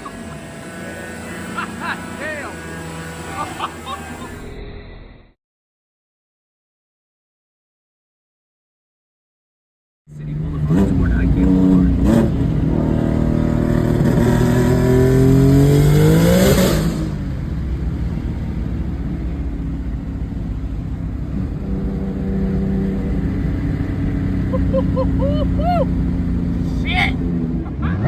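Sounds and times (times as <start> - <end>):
car engine accelerating: 0.0 - 4.8, 10.1 - 28.0.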